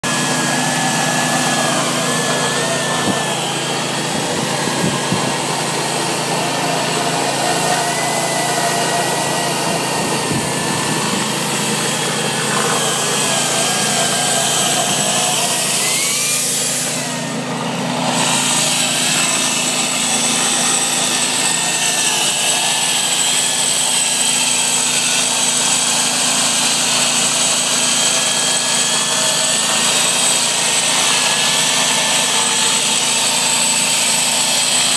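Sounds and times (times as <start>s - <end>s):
electric stone saw cutting marble: 0.0s - 34.9s.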